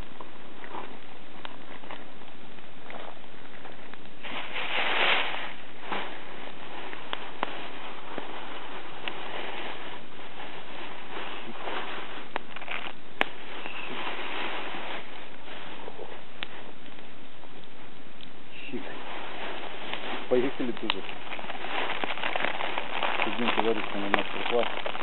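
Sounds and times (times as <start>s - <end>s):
campfire crackling: 0.0s - 25.0s
fire popping: 0.0s - 25.0s
steady hiss: 0.0s - 25.0s
rush of noise: 3.7s - 25.0s.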